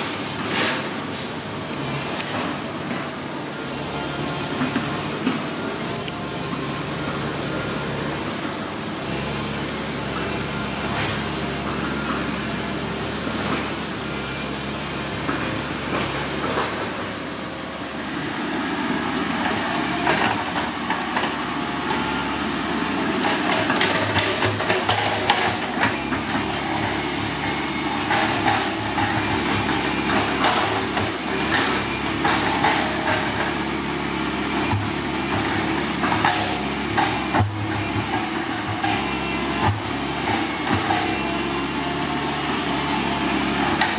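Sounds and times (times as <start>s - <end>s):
diesel truck driving off: 0.0s - 43.9s
excavator diesel engine working: 0.0s - 43.9s.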